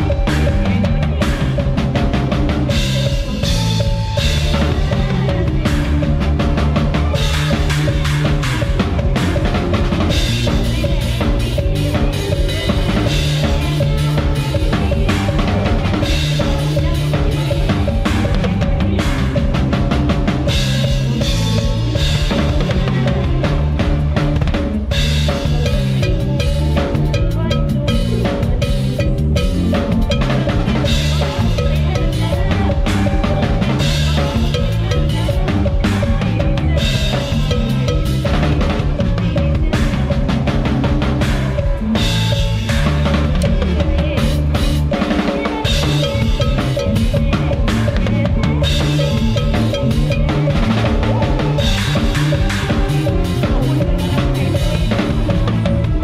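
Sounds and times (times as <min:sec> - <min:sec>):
band music: 0:00.0 - 0:56.0
drum kit playing fast groove: 0:00.0 - 0:56.0.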